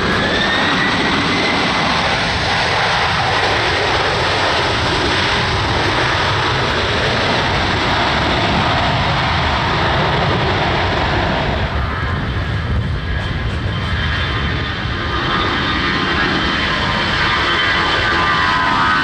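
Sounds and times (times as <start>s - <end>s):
jet engine noise: 0.0s - 19.0s.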